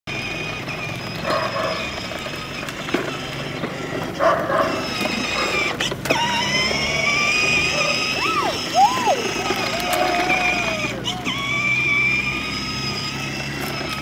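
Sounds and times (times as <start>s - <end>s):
electric motor whine: 0.1s - 14.0s.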